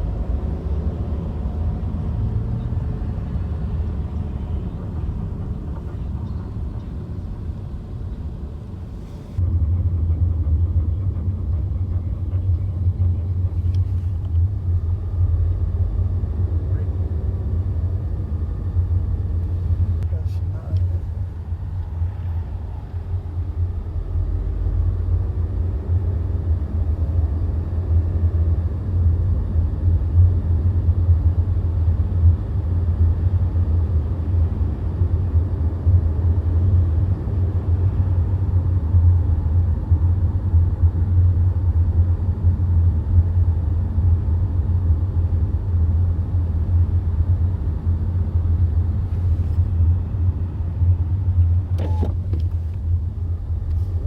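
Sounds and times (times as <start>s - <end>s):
car low rumble: 0.0s - 54.0s.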